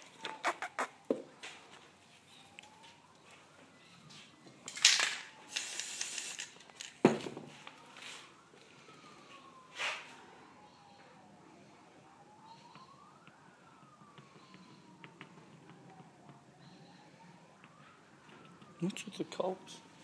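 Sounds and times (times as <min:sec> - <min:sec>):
faint siren wailing: 0:00.0 - 0:20.0.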